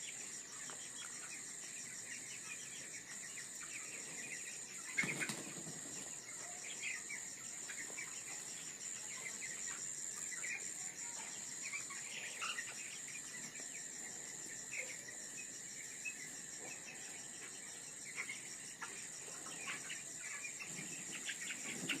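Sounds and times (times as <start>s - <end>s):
crickets trilling: 0.0s - 22.0s
chickens peeping: 0.1s - 22.0s.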